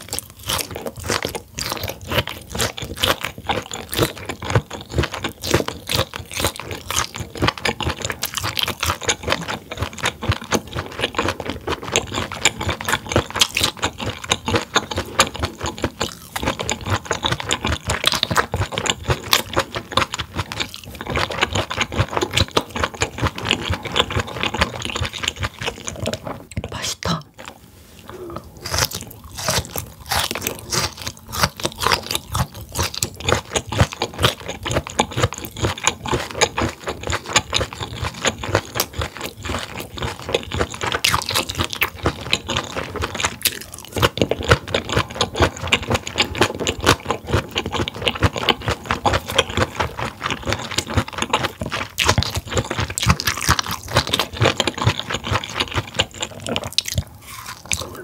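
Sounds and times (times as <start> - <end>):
close chewing crunches: 0.0 - 58.0.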